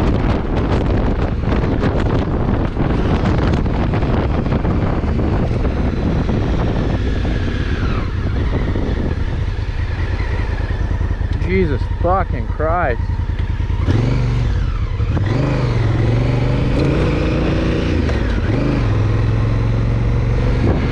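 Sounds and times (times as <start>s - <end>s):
motorcycle engine running: 0.0s - 20.9s
wind noise on microphone: 0.0s - 20.9s.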